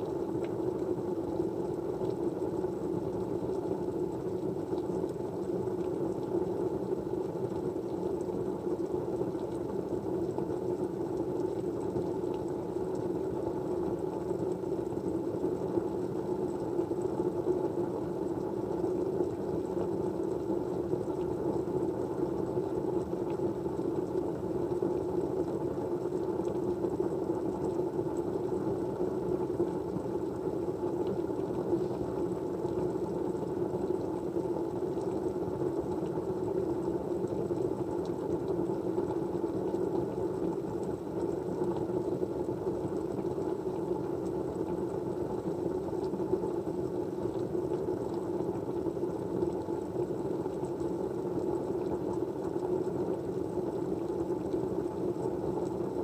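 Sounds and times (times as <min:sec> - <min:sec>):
low hum-like white noise: 0:00.0 - 0:56.0.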